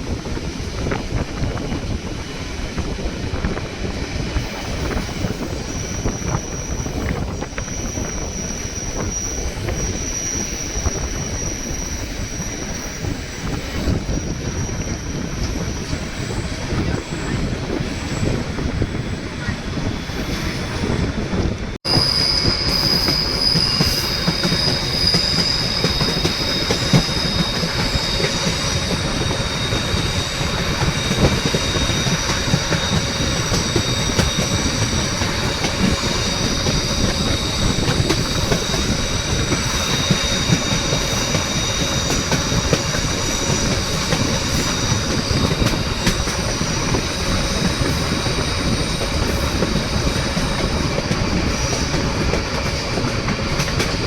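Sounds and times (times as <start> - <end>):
train wheels rumbling and clattering: 0.0 - 54.0
high-pitched wheel squeal: 4.4 - 21.2, 21.9 - 54.0.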